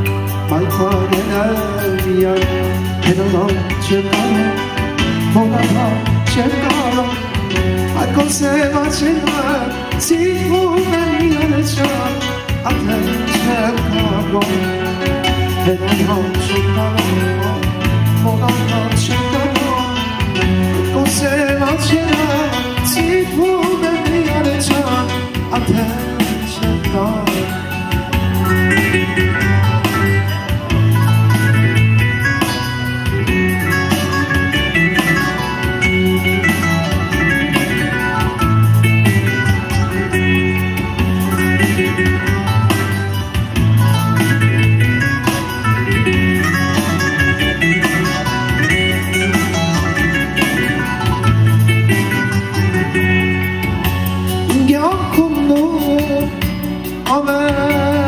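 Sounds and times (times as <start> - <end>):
man singing: 0.0 - 30.3, 33.0 - 42.9, 45.8 - 51.1, 54.4 - 58.0
keyboard chords and bass: 0.0 - 58.0.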